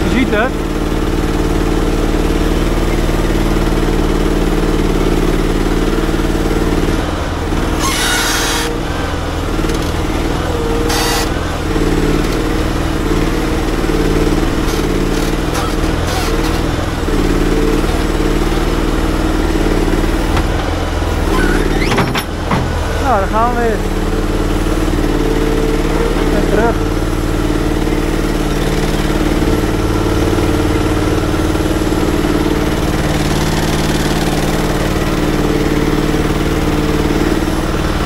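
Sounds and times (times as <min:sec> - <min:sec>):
small petrol engine running: 0:00.0 - 0:38.0.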